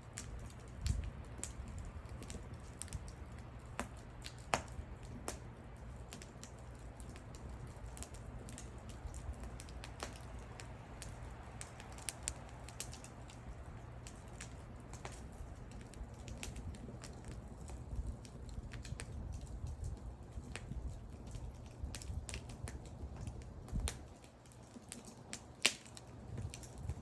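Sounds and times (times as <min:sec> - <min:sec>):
low steady rumble: 0:00.0 - 0:27.0
wood fire crackling and popping: 0:00.0 - 0:27.0.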